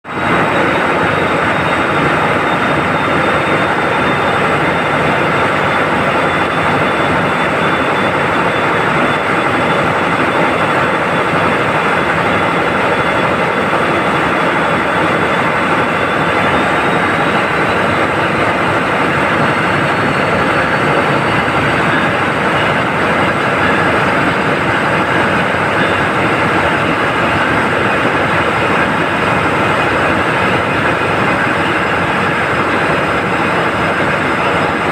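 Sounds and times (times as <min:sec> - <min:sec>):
marine diesel engine running: 0:00.1 - 0:34.9
thin high whine: 0:00.1 - 0:34.9.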